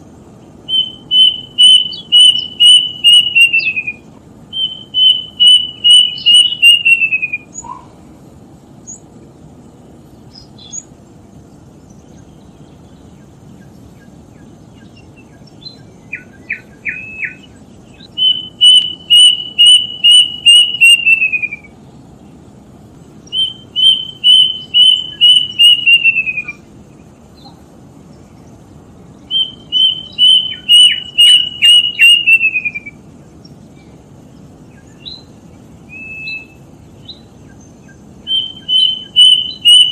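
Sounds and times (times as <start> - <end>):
bird singing whistled notes: 0.4 - 7.9, 10.3 - 10.9, 11.8 - 22.3, 23.2 - 39.9.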